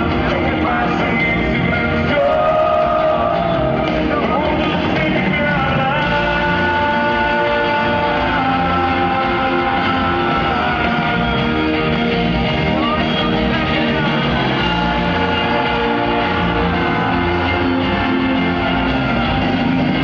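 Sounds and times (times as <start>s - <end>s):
electric guitars: 0.0s - 20.0s
live band playing pop-rock: 0.0s - 20.0s.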